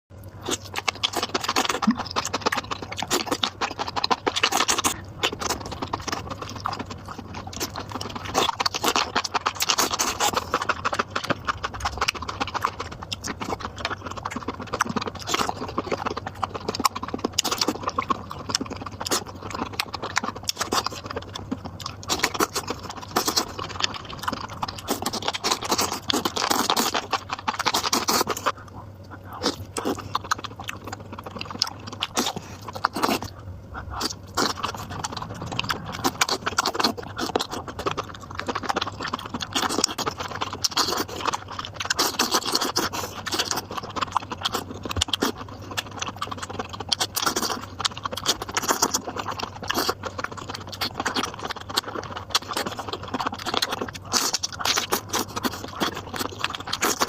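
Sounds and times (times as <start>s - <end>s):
person chewing and slurping noodles: 0.2s - 57.0s.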